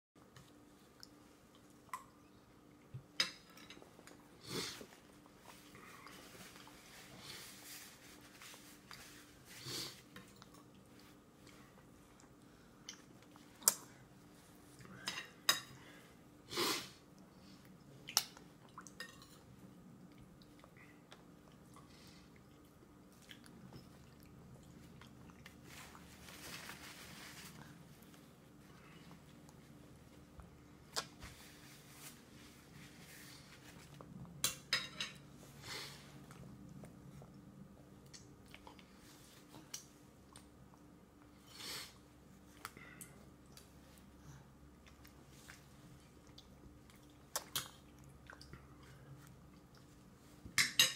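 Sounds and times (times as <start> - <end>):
faint steady hum: 0.2 - 50.9.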